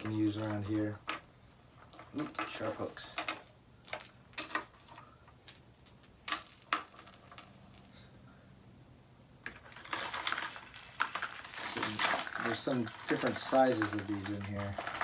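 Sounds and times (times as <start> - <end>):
plastic lures and hooks clinking: 0.0 - 8.0, 9.4 - 15.0.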